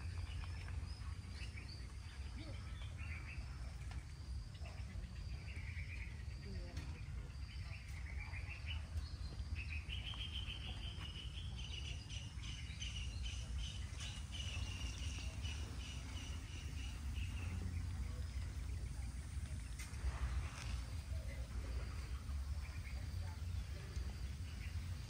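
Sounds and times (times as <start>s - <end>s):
birds chirping: 0.0s - 25.0s
constant low rumble: 0.0s - 25.0s.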